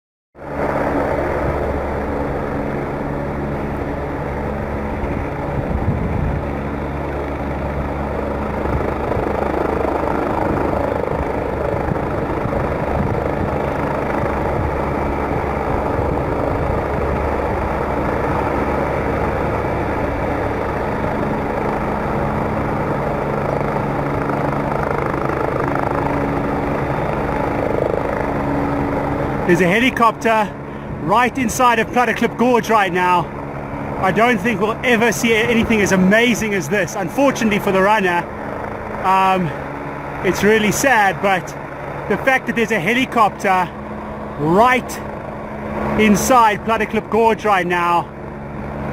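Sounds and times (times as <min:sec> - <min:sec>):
helicopter hovering: 0:00.4 - 0:48.9.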